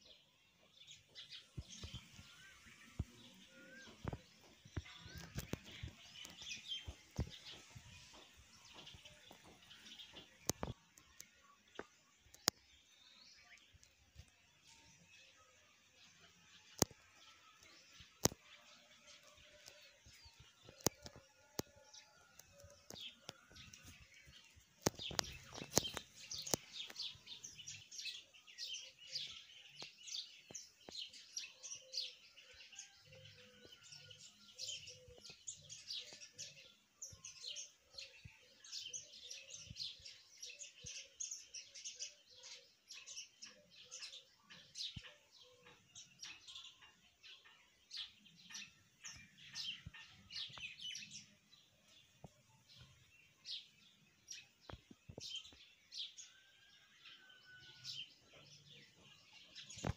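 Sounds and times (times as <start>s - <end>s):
birds chirping rapidly: 0.0s - 59.9s.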